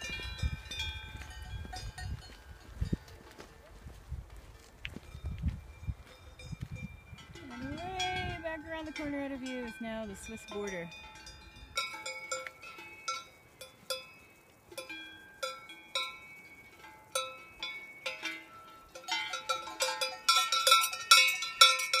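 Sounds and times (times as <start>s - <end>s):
cowbells clanking: 0.0s - 3.3s, 5.1s - 22.0s.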